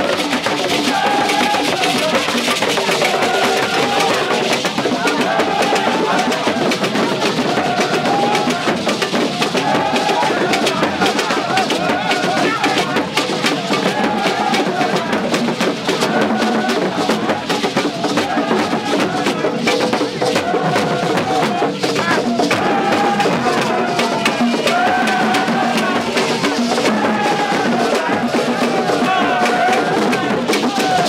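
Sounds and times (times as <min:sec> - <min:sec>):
drums: 0:00.0 - 0:31.0
voices singing a wavering tune: 0:00.0 - 0:31.0.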